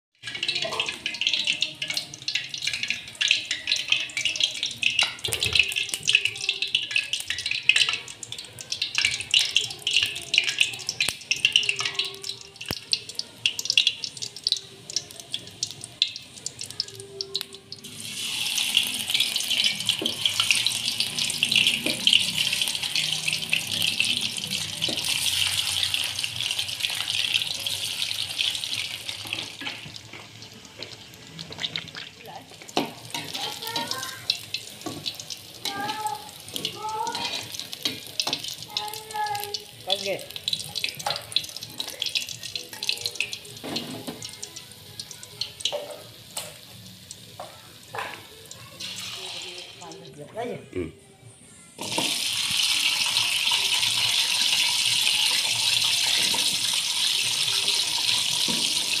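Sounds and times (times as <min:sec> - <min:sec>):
hot oil crackling and spitting: 0:00.1 - 0:50.1, 0:51.8 - 0:59.0
food sizzling in oil: 0:00.2 - 0:50.9, 0:51.8 - 0:59.0.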